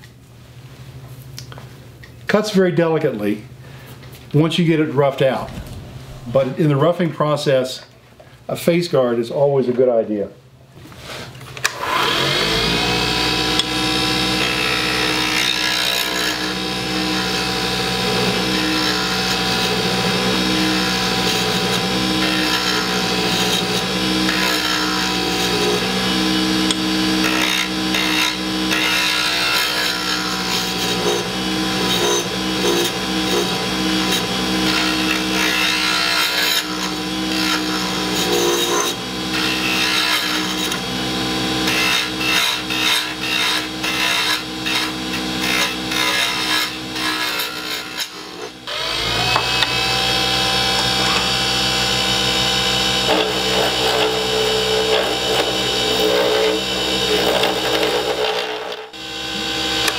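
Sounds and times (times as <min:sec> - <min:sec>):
turning tool cutting: 0:11.6 - 0:59.9
wood lathe motor whine: 0:11.6 - 0:59.9.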